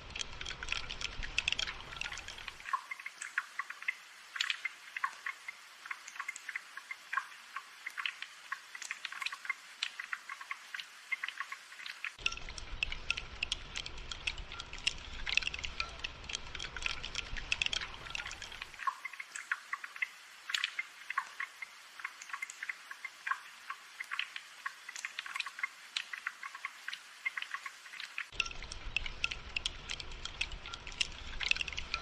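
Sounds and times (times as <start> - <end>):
rain patter: 0.0 - 32.0.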